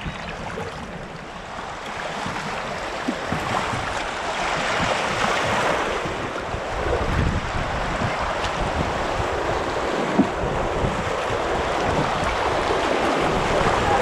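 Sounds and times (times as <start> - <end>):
white water rushing and splashing: 0.0 - 14.0
wind buffeting microphone: 0.0 - 14.0.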